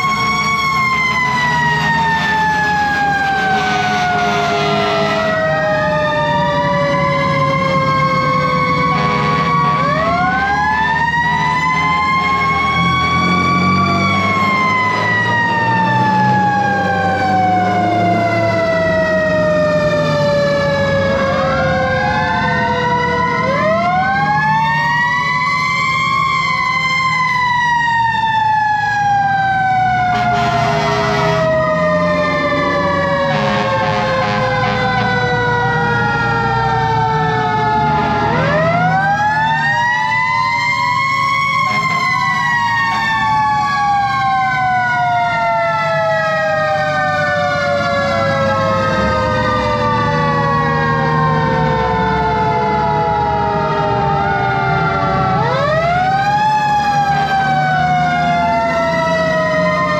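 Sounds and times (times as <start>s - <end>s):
fire truck sirens winding: 0.0s - 59.9s.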